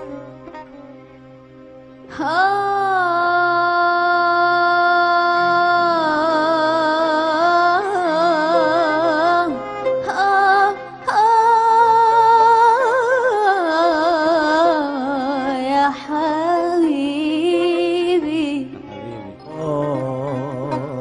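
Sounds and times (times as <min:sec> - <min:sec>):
woman singing wordless melody: 0:02.1 - 0:21.0.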